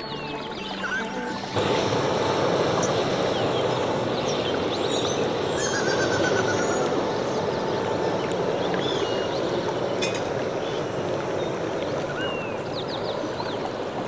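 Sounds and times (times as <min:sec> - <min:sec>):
birds chirping: 0:00.0 - 0:14.0
stream rushing: 0:00.0 - 0:14.0.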